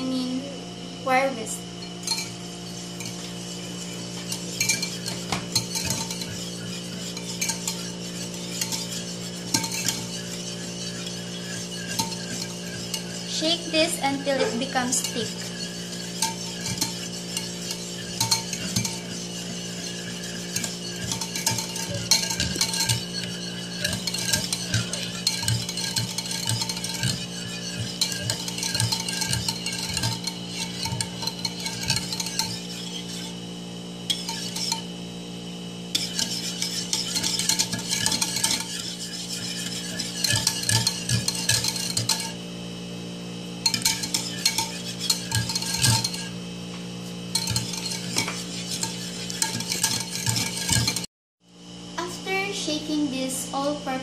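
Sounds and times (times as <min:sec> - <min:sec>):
steady low hum: 0:00.0 - 0:54.0
whisk scraping and clinking in bowl: 0:01.8 - 0:35.1, 0:35.9 - 0:42.6, 0:43.4 - 0:51.1.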